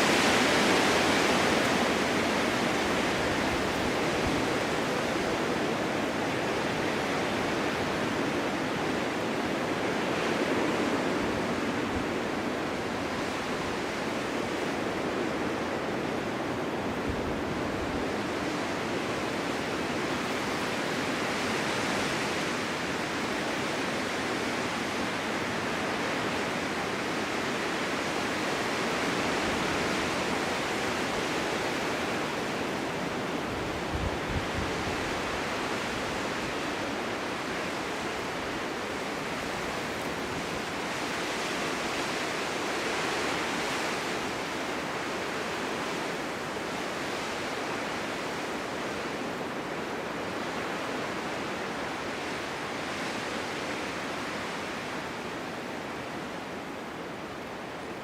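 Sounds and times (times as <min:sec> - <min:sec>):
snowstorm wind blowing: 0:00.0 - 0:58.0.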